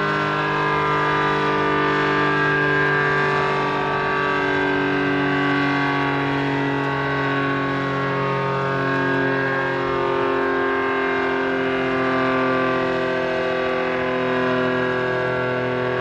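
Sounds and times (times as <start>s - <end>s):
outdoor warning siren wailing: 0.0s - 16.0s.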